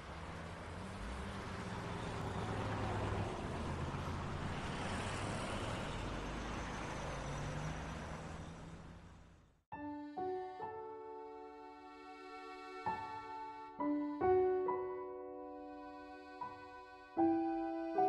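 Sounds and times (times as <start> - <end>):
city street traffic: 0.0 - 9.6, 10.3 - 18.0.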